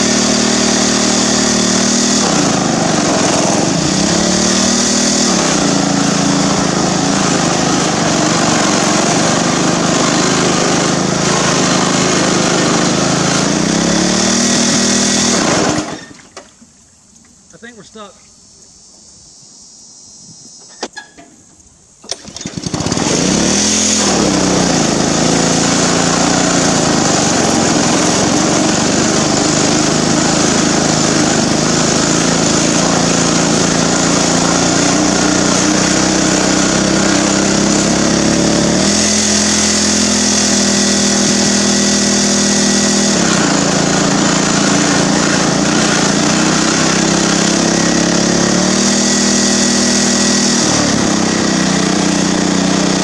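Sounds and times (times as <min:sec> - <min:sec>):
small gas engine running: 0:00.0 - 0:16.3, 0:22.0 - 0:53.0.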